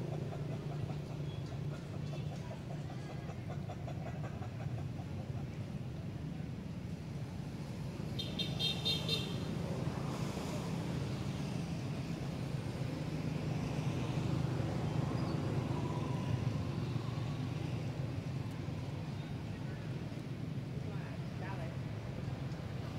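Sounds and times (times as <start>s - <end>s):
low rumble of road traffic: 0.0s - 22.9s.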